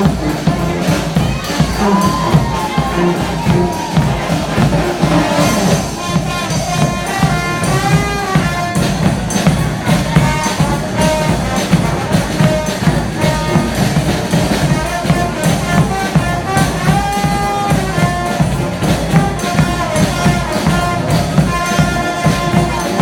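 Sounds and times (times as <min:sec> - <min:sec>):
busy drumming: 0:00.0 - 0:23.0
horns playing a melody: 0:00.0 - 0:23.0.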